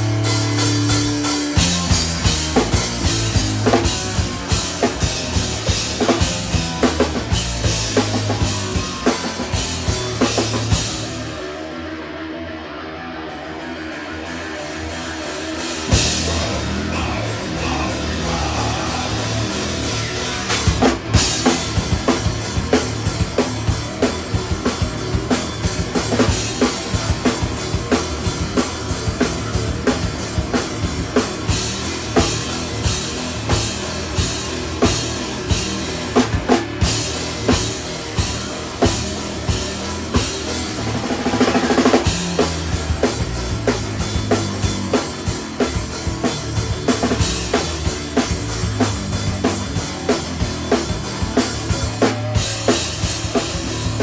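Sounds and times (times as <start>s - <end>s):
drum kit beat: 0.0s - 12.0s, 13.5s - 54.0s
rock band playing: 0.0s - 54.0s.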